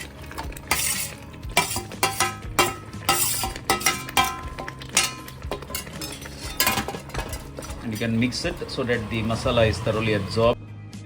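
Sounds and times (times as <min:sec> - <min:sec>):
metal spoon scraping metal pan: 0:00.0 - 0:10.4.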